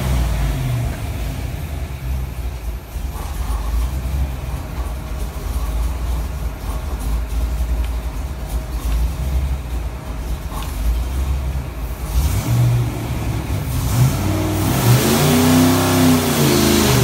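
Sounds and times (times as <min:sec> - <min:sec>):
engine idling at low rpm: 0:00.0 - 0:17.0.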